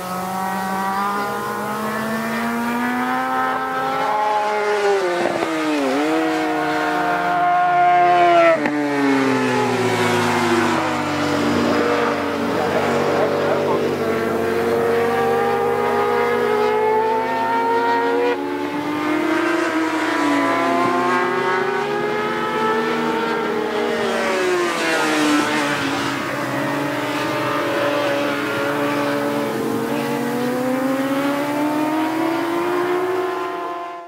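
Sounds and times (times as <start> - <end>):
racing motorcycles accelerating: 0.0 - 34.0.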